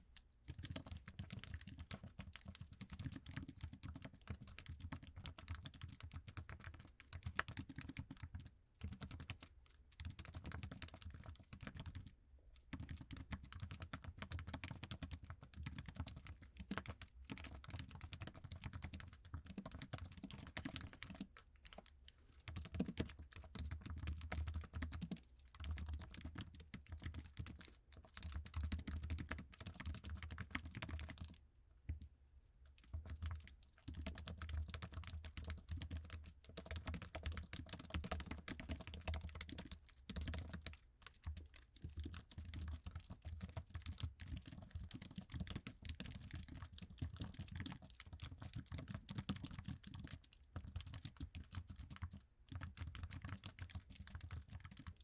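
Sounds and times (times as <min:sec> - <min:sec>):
keyboard typing: 0:00.5 - 0:12.1, 0:12.7 - 0:32.1, 0:32.8 - 0:55.0.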